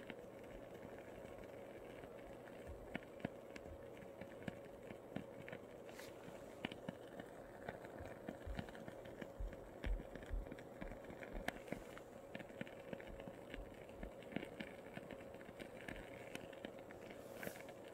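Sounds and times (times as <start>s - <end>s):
candle wick crackling: 0.0s - 17.9s.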